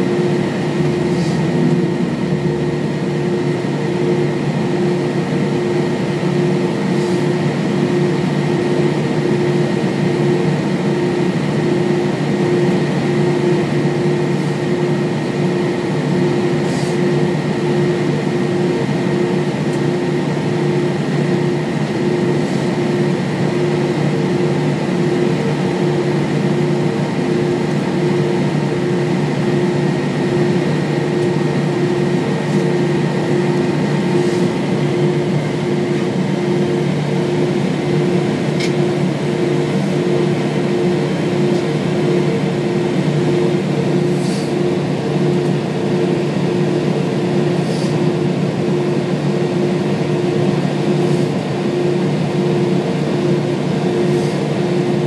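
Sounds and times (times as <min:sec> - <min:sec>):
air conditioning running: 0:00.0 - 0:55.0
jet engines idling: 0:00.0 - 0:55.0.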